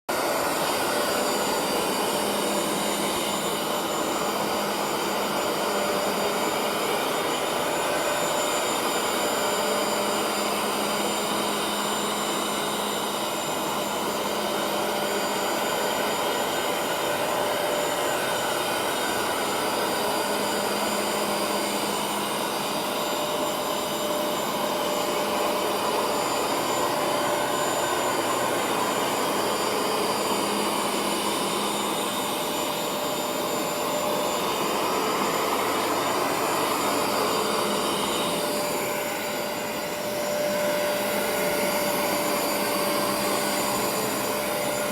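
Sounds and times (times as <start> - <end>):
vacuum cleaner motor running: 0.0 - 44.9.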